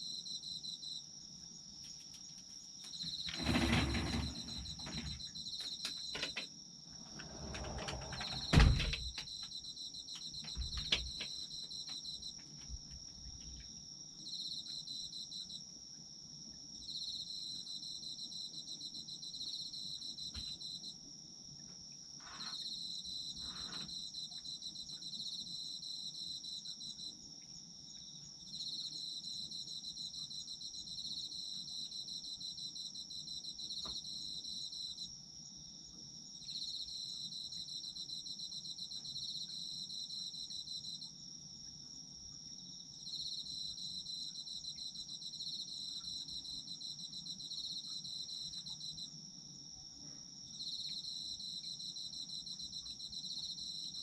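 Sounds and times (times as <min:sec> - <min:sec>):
cricket rapid pulsed trills: 0:00.0 - 0:54.0
cricket steady high trill: 0:00.0 - 0:54.0.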